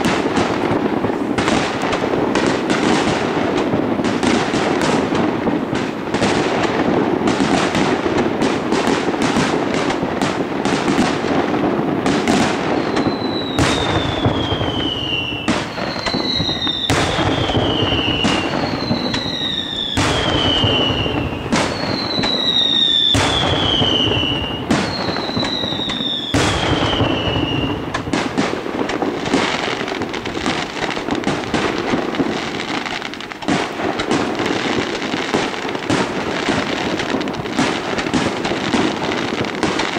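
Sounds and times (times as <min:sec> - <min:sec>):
falling firework whistles: 0:00.0 - 0:39.9
firework bursts and bangs: 0:00.0 - 0:39.9.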